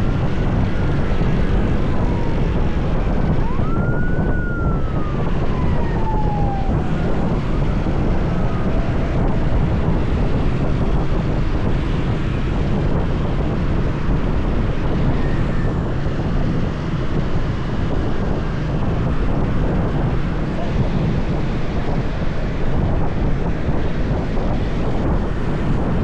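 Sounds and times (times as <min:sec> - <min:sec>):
road traffic: 0:00.0 - 0:26.0
wind rushing over microphone: 0:00.0 - 0:26.0.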